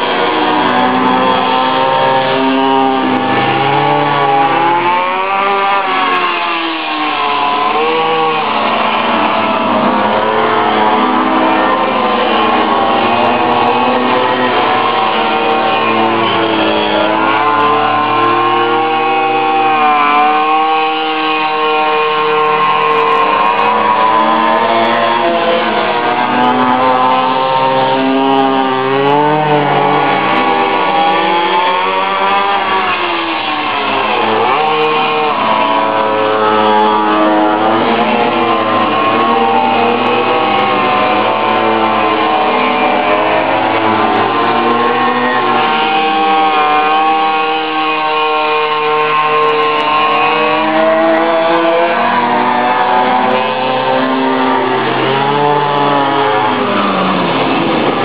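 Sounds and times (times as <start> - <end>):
minibike engines revving: 0.0 - 58.0.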